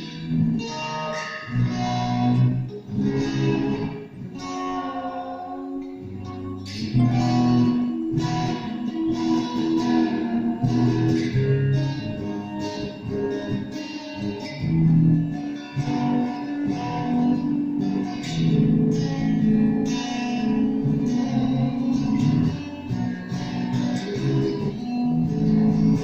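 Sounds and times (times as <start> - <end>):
electric guitar chords: 0.0 - 26.0.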